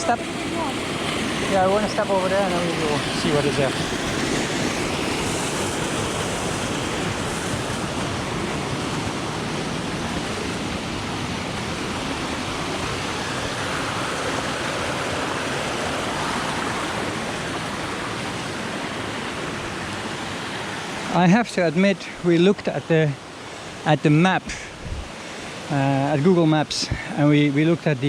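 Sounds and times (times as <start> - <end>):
waterfall rushing over rock: 0.0 - 28.0.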